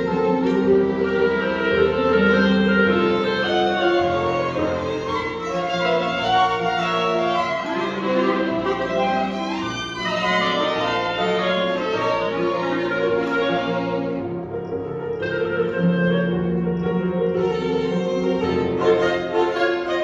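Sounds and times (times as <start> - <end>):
bowed violin lines: 0.0 - 20.0
chamber quintet playing: 0.0 - 20.0.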